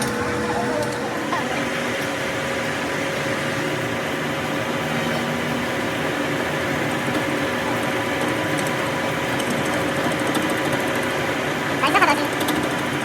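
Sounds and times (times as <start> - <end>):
machine humming steadily: 0.0 - 13.0.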